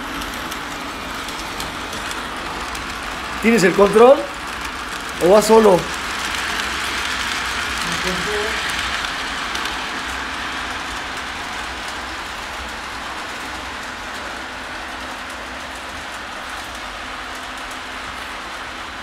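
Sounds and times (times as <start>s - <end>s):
faint motor hum: 0.0s - 19.0s
model train wheels on rail: 0.0s - 19.0s.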